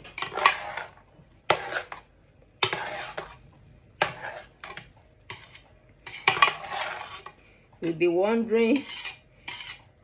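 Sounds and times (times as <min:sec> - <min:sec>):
spoon scraping through rice: 0:00.1 - 0:07.4, 0:08.8 - 0:10.0.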